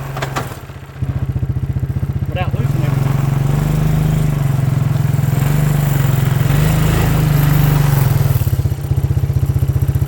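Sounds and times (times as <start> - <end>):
small engine running: 1.2 - 10.0.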